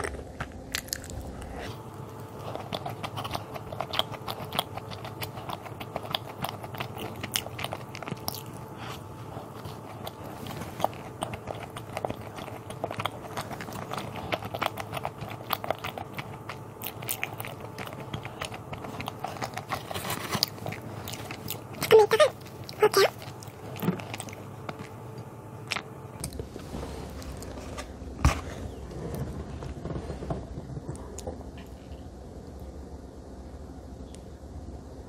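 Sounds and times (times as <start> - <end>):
chewing soft doughnut: 0.0 - 32.7.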